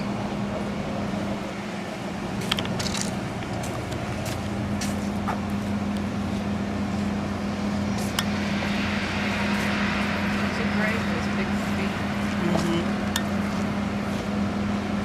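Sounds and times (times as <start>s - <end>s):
golf cart humming: 0.0s - 15.0s.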